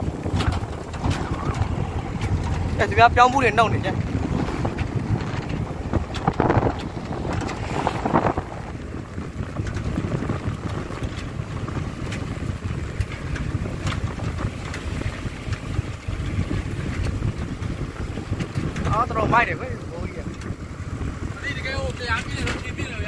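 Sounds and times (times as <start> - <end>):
moving vehicle rumble: 0.0 - 23.0
wind buffeting microphone: 0.0 - 23.0.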